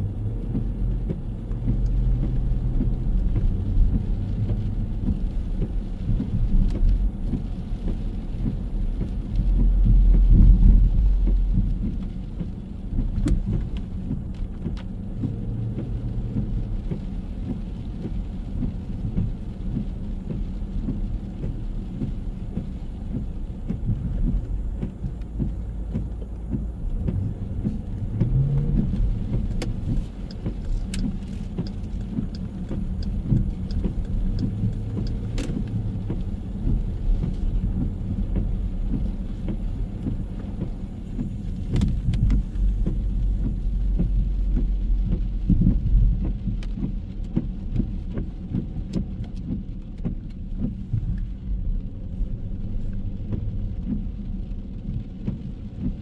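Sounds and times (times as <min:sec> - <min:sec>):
cars passing: 0:00.0 - 0:56.0
traffic rumble: 0:00.0 - 0:56.0.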